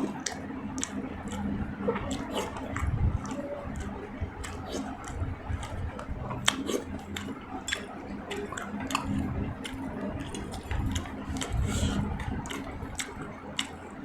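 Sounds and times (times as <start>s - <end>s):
wet chewing of food: 0.0s - 14.0s.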